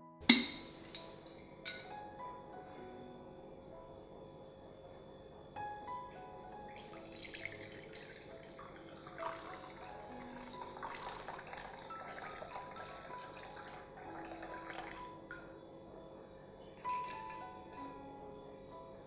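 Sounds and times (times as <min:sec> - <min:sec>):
soft plucked background music: 0:00.3 - 0:19.0.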